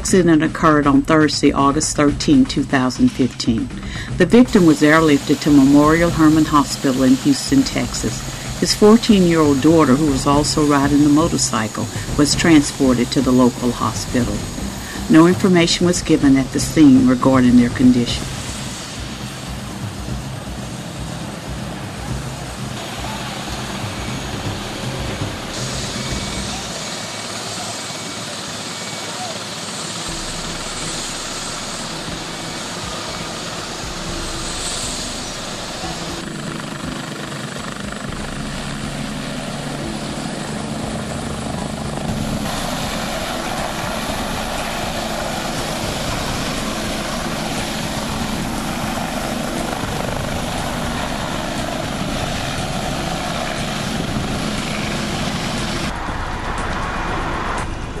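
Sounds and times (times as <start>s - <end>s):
helicopter engine and rotors: 0.0s - 58.0s.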